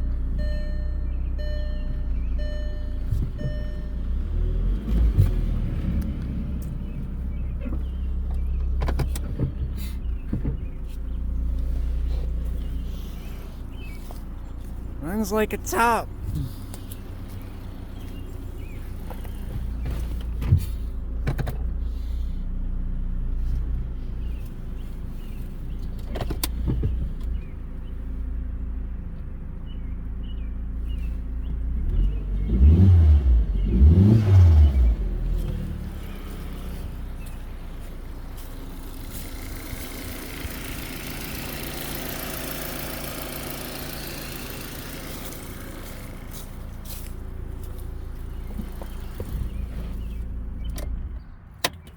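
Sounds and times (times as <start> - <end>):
car engine running and revving: 0.0 - 51.9.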